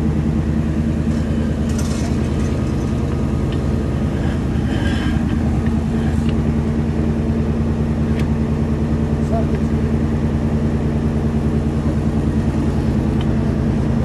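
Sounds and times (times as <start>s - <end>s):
drilling rig engine idling: 0.0s - 14.0s.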